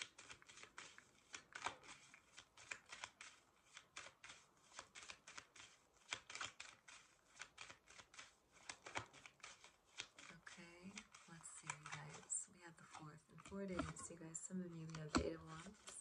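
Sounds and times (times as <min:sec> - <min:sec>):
cards being shuffled: 0:00.0 - 0:16.0.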